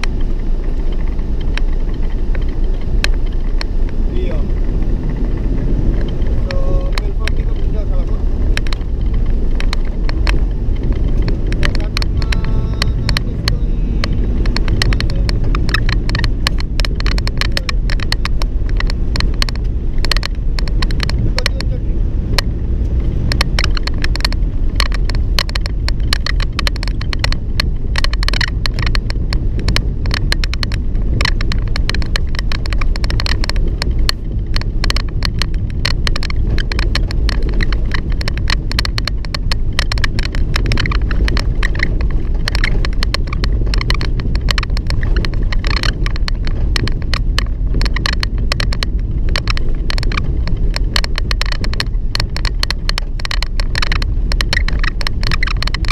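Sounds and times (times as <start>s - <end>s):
vehicle door squeaking and rattling: 0.0s - 55.9s
vehicle engine and road rumble: 0.0s - 55.9s.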